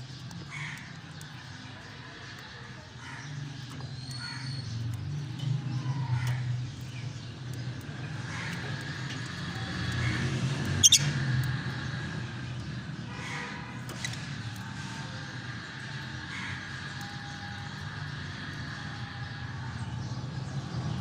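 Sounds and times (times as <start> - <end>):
lovebirds calling shrilly: 0.2 - 19.0.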